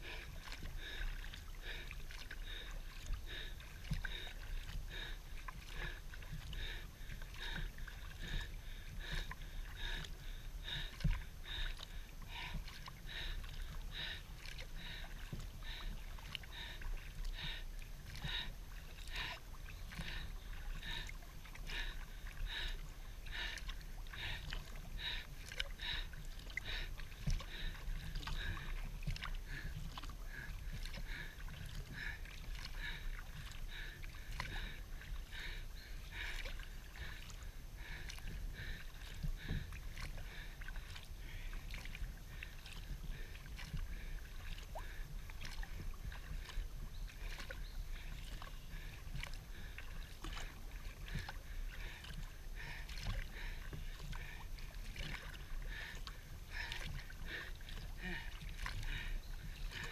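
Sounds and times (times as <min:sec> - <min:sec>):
paddle splashing and dripping water: 0:00.0 - 0:59.9.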